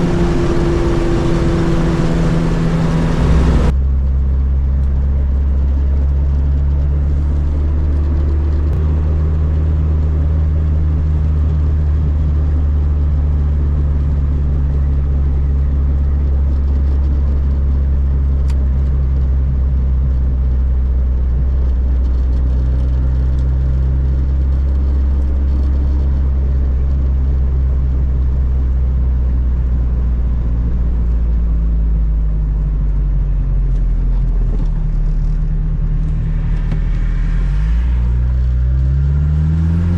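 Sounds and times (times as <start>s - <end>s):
car engine droning: 0.0s - 39.9s
road rumble: 0.0s - 39.9s.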